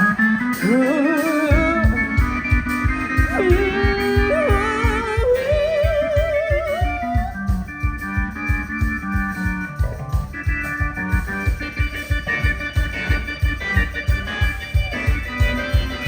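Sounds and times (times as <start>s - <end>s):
fast drum beat: 0.0s - 16.0s
lead electric guitar: 0.0s - 16.0s
rock band playing: 0.0s - 16.0s.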